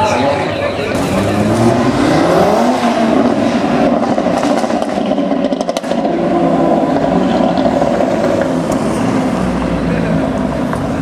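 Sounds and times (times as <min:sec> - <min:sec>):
car engine revving: 0:00.9 - 0:11.0
exhaust crackles: 0:00.9 - 0:11.0.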